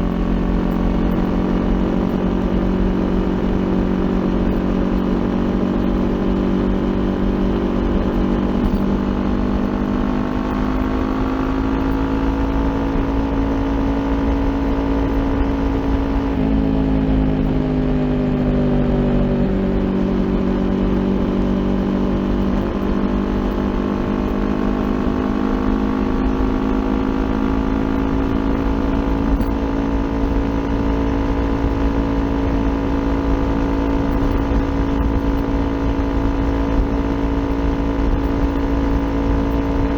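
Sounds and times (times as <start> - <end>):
motorcycle engine cruising: 0.0 - 39.9
wind and road rumble: 0.0 - 39.9.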